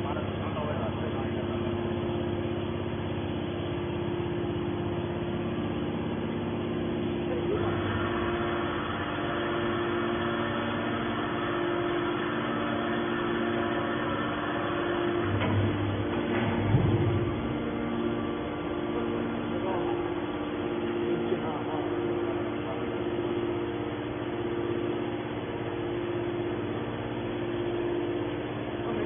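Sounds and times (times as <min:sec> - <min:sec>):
hydraulic pump motor whining: 0:00.1 - 0:29.0.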